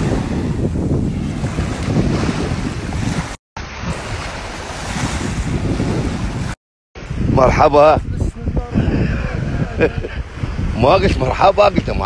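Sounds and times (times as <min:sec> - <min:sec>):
surf washing: 0:00.0 - 0:12.0
wind buffeting microphone: 0:00.0 - 0:12.0.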